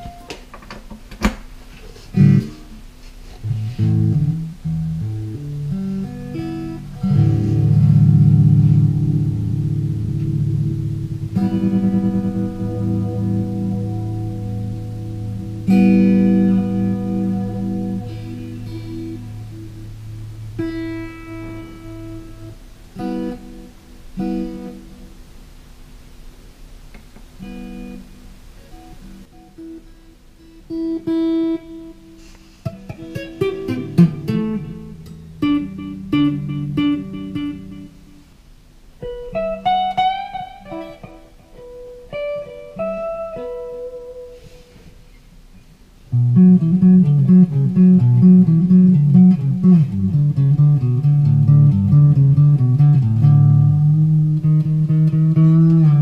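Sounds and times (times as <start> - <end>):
electric guitar through amplifier: 0.0 - 56.0.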